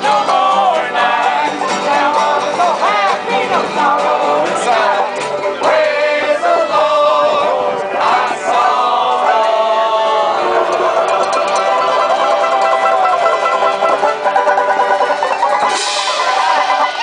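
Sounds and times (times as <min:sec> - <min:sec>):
acoustic string band: 0:00.0 - 0:17.0
voices singing together: 0:00.0 - 0:17.0.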